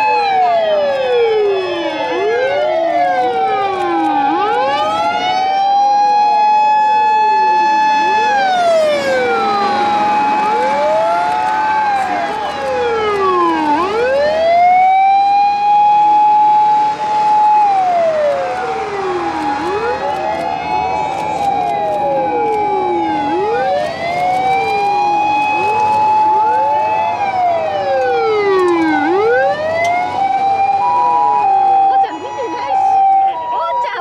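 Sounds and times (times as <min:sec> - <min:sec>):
fire engine sirens wailing: 0:00.0 - 0:34.0
two-tone ambulance siren: 0:00.0 - 0:34.0.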